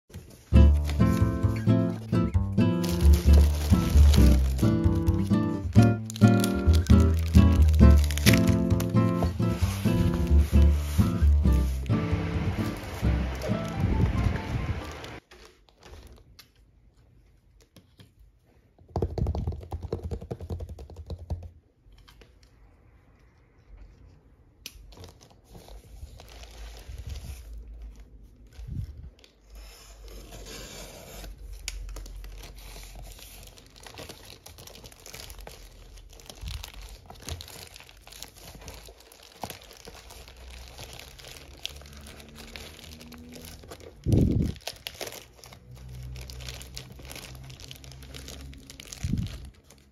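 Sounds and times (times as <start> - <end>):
plastic mailer tearing and crinkling: 0.1 - 16.4, 24.8 - 49.9.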